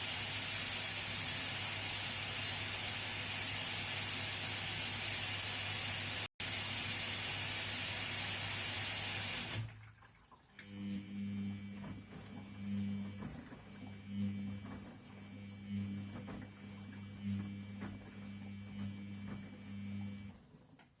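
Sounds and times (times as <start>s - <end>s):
washing machine drawing water: 0.0s - 21.0s.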